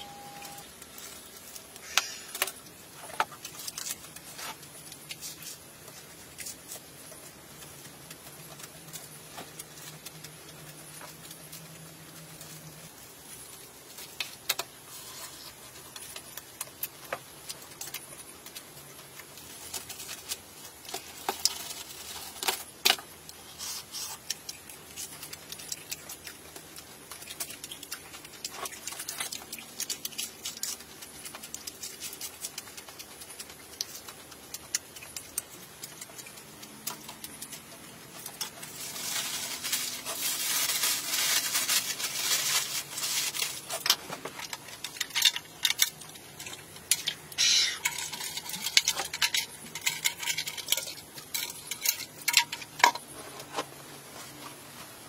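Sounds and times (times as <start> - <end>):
aluminium foil crinkling: 0.0 - 55.0.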